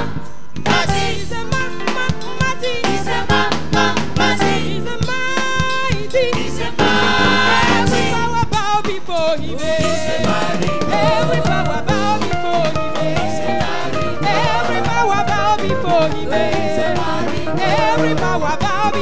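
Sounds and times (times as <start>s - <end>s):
band with drum kit: 0.0s - 19.0s
voices singing gospel: 0.0s - 19.0s.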